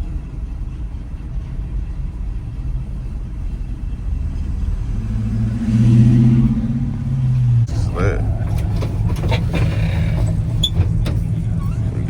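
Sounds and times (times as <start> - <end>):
steady engine drone: 0.0 - 12.0
vehicle engine rumble: 0.0 - 12.0.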